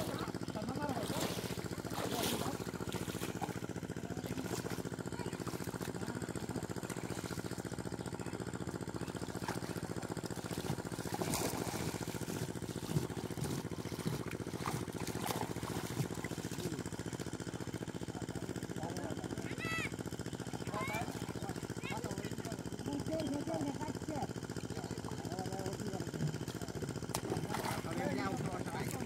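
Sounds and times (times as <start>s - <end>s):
people wading through muddy water: 0.0s - 29.0s
small engine running: 0.0s - 29.0s.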